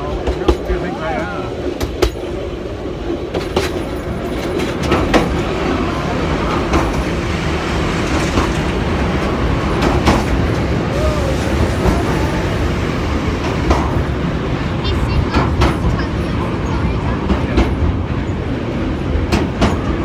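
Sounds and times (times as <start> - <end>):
wheels clicking over rail joints: 0.0 - 11.1, 13.3 - 20.0
train carriage rumble: 0.0 - 20.0.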